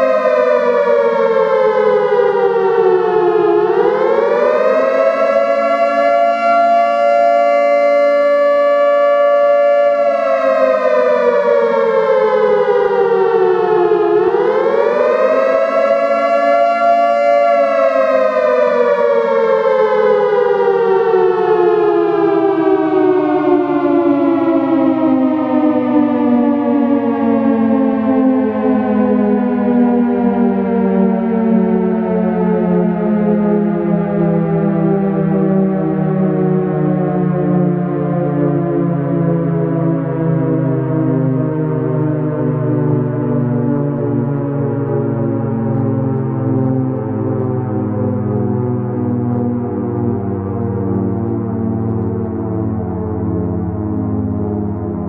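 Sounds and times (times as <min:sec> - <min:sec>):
warning siren wailing: 0:00.0 - 0:55.0.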